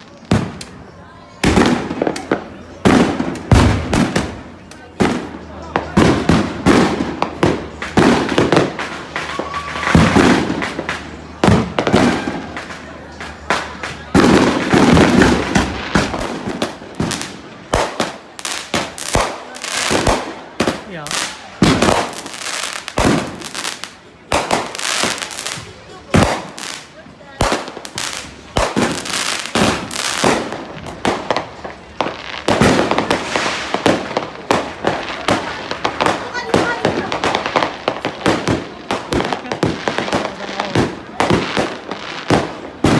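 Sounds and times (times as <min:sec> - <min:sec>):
fireworks bangs and crackling pops: 0:00.0 - 0:42.9.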